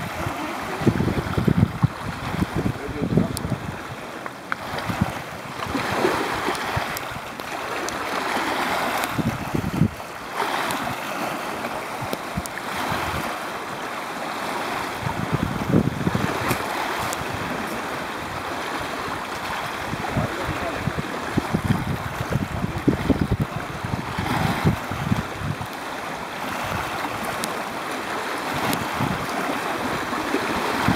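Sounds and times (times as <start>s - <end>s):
waves washing onto pebble shore: 0.0s - 30.9s
wind on microphone: 0.0s - 30.9s.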